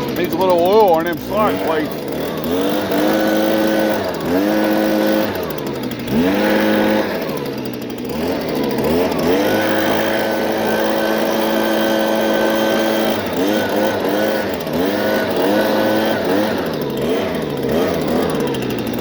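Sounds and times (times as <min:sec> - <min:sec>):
motor revving: 0:00.0 - 0:19.0.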